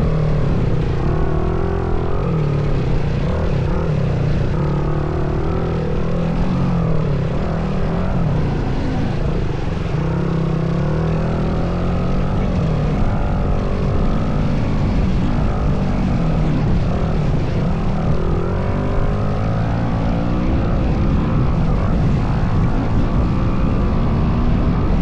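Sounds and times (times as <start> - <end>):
dirt bike engine revving: 0.0 - 25.0
steady rushing noise: 0.0 - 25.0.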